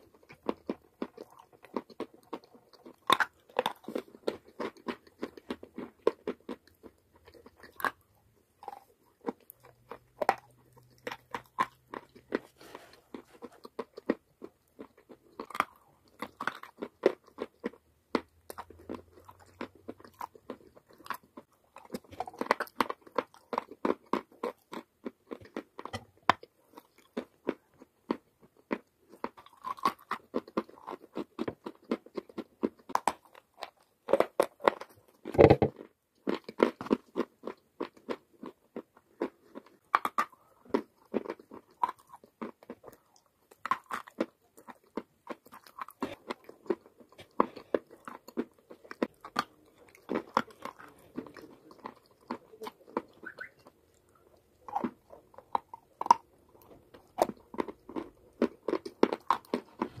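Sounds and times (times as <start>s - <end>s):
chalk crunching when chewed: 0.0s - 60.0s.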